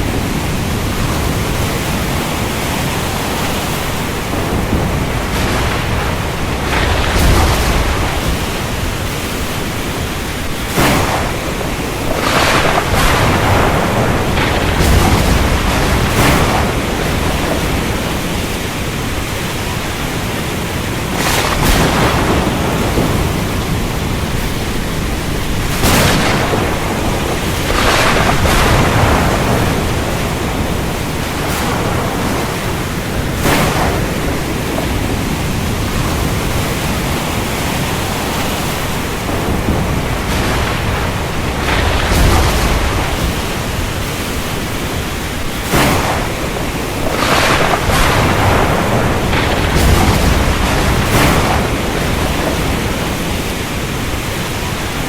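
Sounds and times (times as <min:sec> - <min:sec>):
heavy rain: 0:00.0 - 0:55.0
thunder cracking and rumbling: 0:00.0 - 0:55.0.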